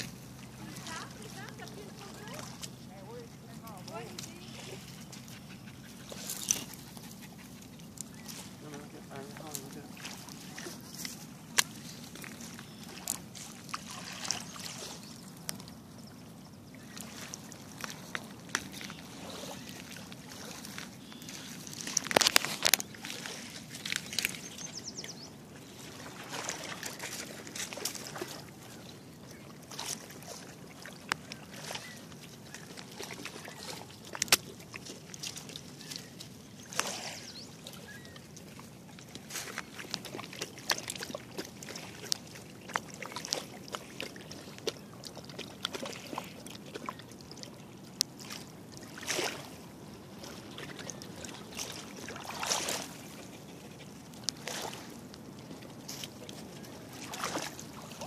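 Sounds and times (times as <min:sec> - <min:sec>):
river waves lapping shoreline: 0:00.0 - 0:58.0.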